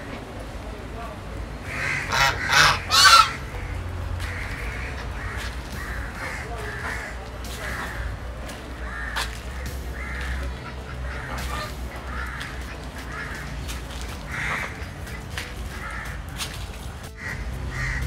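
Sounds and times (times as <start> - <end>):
birds harsh calls: 0.0 - 18.0
steady low hum: 0.0 - 18.0.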